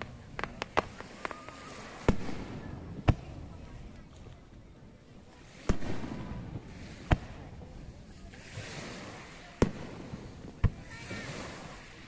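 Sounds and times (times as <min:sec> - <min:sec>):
fireworks hiss: 0:00.0 - 0:04.0, 0:05.4 - 0:12.0
fireworks bangs: 0:00.0 - 0:04.2, 0:05.2 - 0:12.0.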